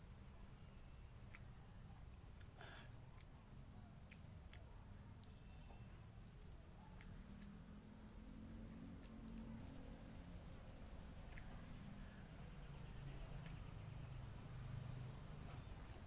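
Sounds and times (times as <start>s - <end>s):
crickets chirring: 0.0s - 16.0s
soft clicks of eating: 1.2s - 16.0s.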